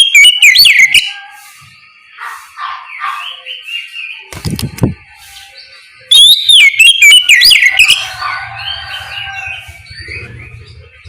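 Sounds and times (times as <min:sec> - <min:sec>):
magpie-robin whistled song: 0:00.0 - 0:11.0.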